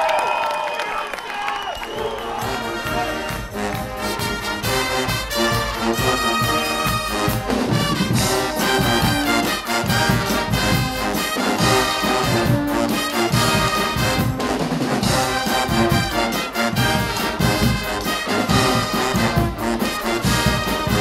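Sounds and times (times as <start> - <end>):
trumpets and sousaphones blaring: 1.9 - 21.0
drums and cymbals beat: 2.0 - 21.0.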